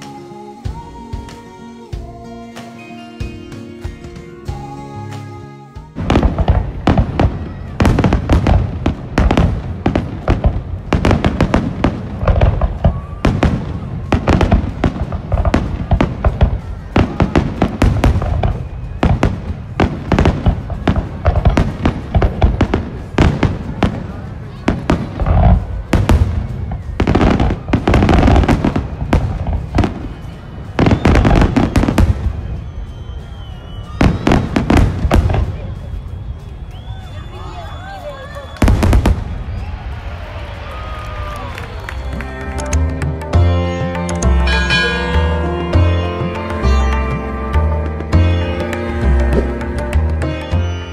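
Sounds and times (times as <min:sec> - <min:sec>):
fireworks bursting: 0:00.0 - 0:50.9
fireworks crackle: 0:05.9 - 0:50.9.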